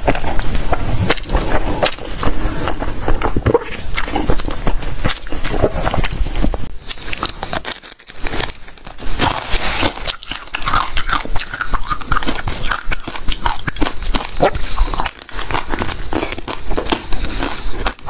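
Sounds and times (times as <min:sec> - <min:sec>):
crunching and chewing: 0:00.0 - 0:18.0.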